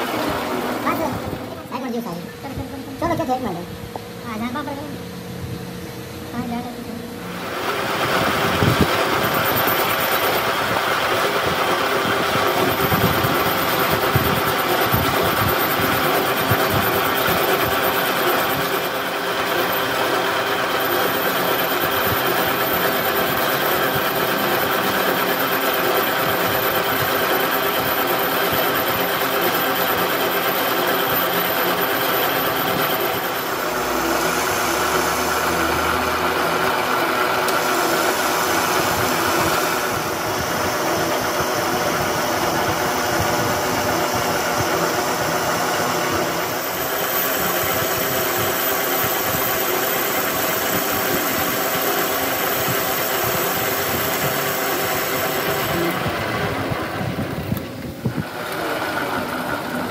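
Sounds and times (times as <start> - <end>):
metal lathe machining steel: 7.2 - 59.9.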